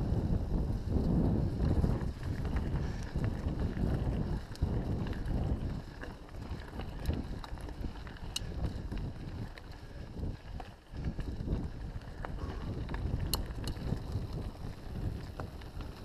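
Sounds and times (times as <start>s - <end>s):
bike clicks and rattles: 0.0s - 16.0s
tyre noise on dirt: 0.0s - 16.0s
wind rumbling on microphone: 0.0s - 16.0s.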